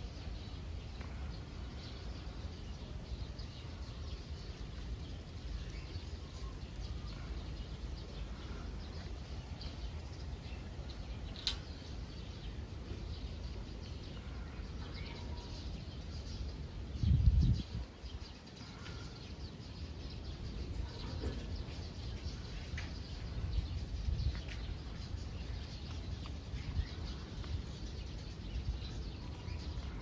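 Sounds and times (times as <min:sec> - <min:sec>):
faint bird chirps: 0:00.0 - 0:30.0.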